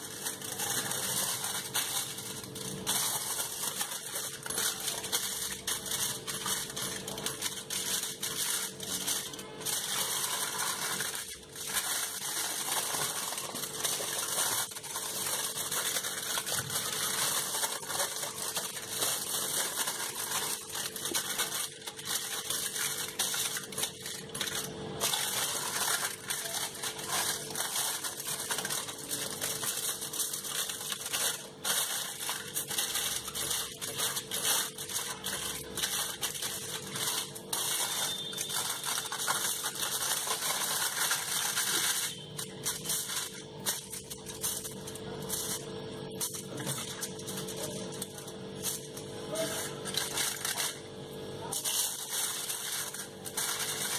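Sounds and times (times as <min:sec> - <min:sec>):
aluminium foil crinkling: 0:00.0 - 0:53.9.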